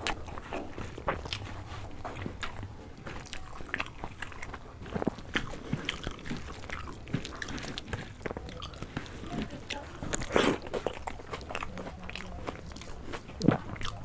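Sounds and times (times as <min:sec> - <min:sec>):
fingers crunching fried food: 0:00.0 - 0:14.0.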